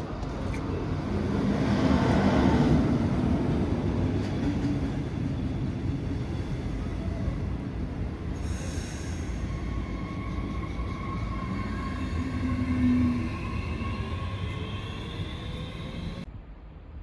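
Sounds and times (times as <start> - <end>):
train wheels on rails: 1.3 - 16.3.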